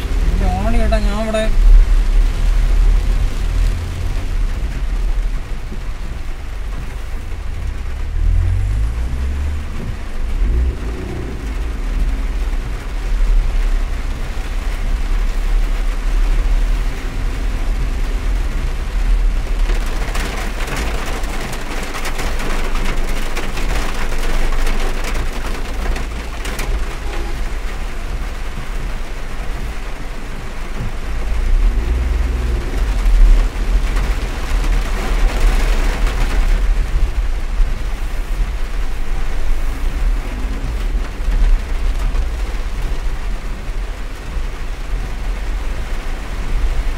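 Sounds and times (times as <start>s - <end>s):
car low rumble: 0.0s - 46.9s
heavy rain drumming on car roof: 0.0s - 46.9s.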